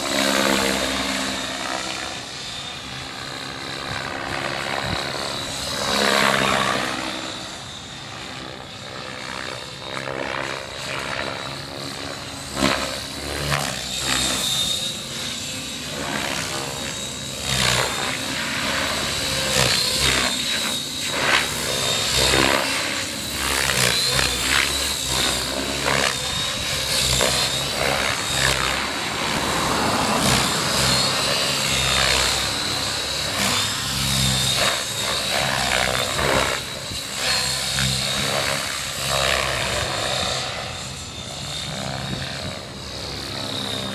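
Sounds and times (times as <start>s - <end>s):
high motor whine: 0.0s - 43.9s
rotor blades whooshing: 0.0s - 43.9s.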